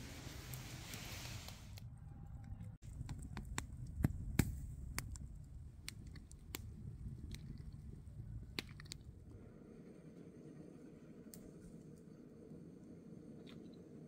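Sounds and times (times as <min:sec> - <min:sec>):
low steady rumble: 0:00.0 - 0:14.0
campfire crackling and popping: 0:00.2 - 0:14.0.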